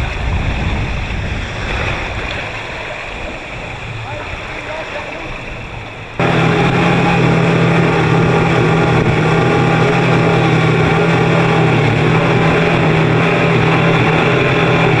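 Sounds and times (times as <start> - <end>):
motorboat engine running: 0.0 - 15.0
rushing wake water: 0.0 - 15.0
wind: 0.0 - 15.0.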